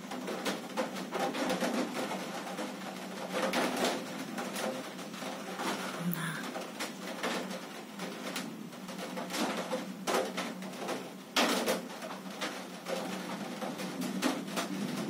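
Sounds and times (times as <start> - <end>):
heavy rain through window: 0.0 - 15.0
raindrops knocking and splashing: 0.0 - 15.0.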